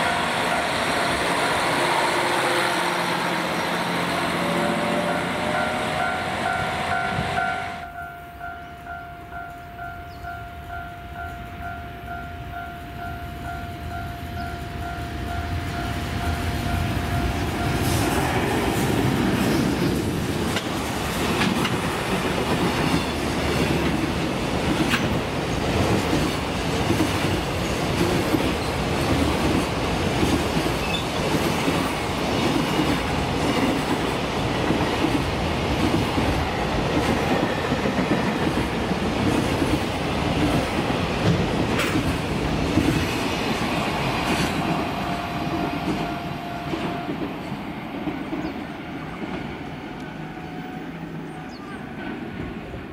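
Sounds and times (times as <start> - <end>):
freight train rumble: 0.0 - 52.9.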